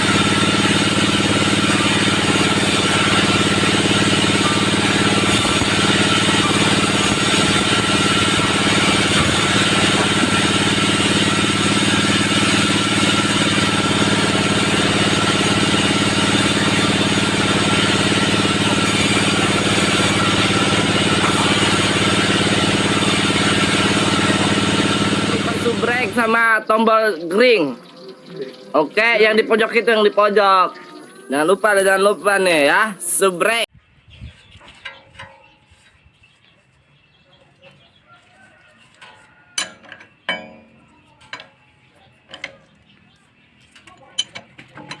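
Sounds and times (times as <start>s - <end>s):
band sawmill mechanical hum: 0.0s - 45.0s.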